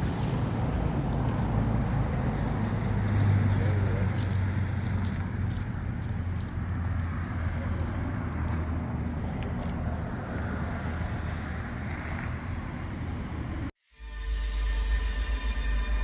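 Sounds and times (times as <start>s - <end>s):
car road and engine rumble: 0.0s - 13.8s.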